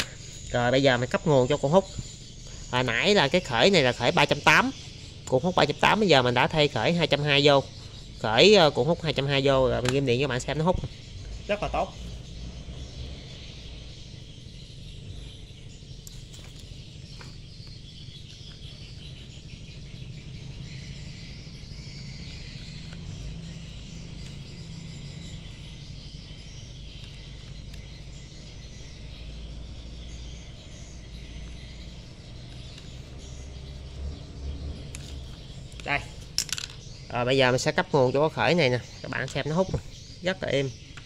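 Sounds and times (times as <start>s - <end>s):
faint chirping: 0.0s - 41.0s
low background hum: 0.0s - 41.0s.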